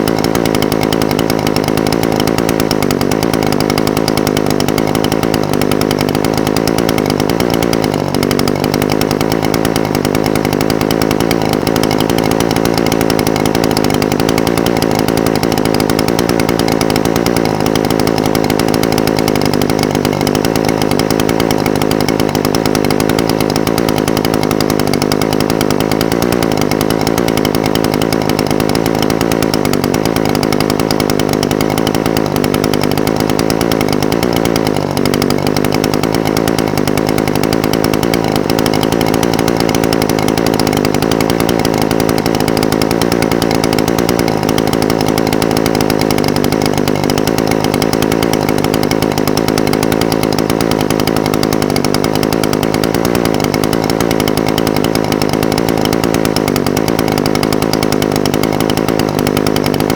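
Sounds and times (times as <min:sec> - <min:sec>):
two-stroke engine idling: 0:00.0 - 0:59.9.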